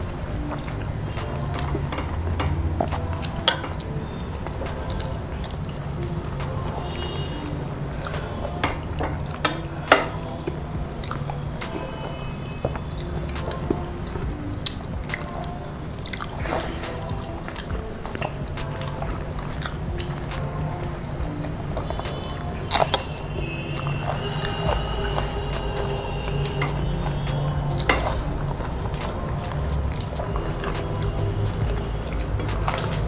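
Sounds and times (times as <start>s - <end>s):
mouth clicks: 0.0s - 33.0s
wet chewing and lip-smacking: 0.0s - 33.0s.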